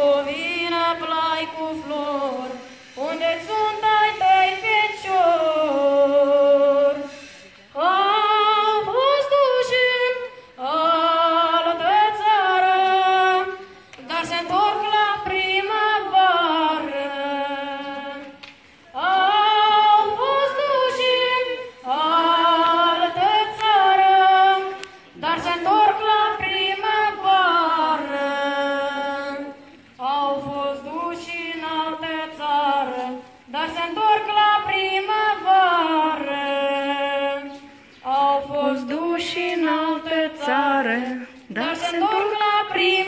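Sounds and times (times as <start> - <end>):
child singing unaccompanied: 0.0 - 43.0.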